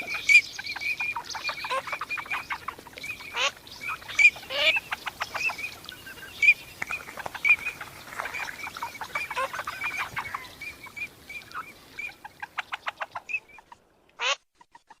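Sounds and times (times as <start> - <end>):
teal whistled calls: 0.0 - 13.8.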